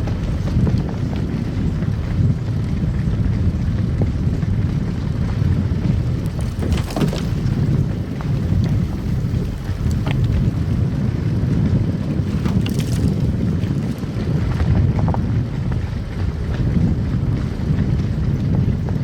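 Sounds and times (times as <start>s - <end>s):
snow crackles: 0.0s - 19.0s
tyre and road rumble: 0.0s - 19.0s.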